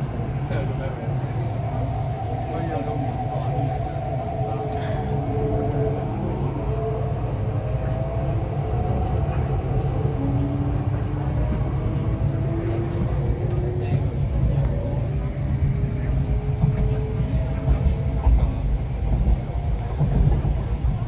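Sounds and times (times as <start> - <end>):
low rumble of running train: 0.0 - 21.0.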